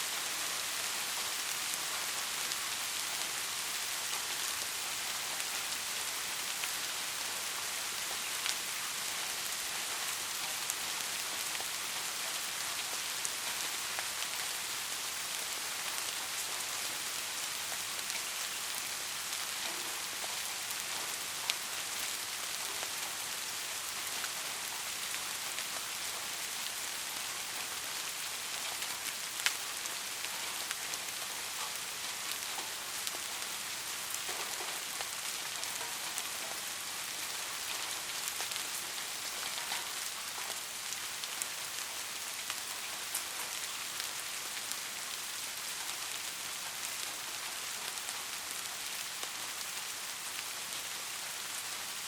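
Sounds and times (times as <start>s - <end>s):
rain falling on a roof: 0.0s - 52.0s.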